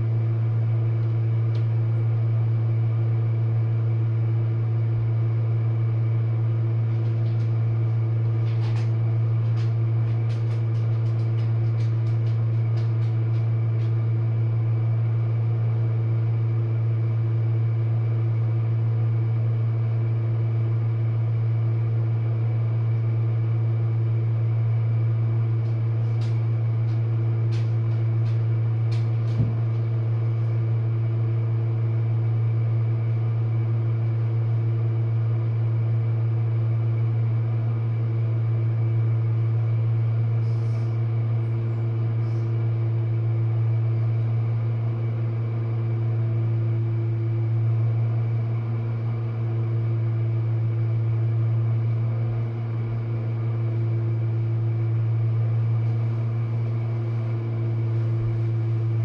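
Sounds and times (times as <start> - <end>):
dishwasher motor hum: 0.0 - 59.0.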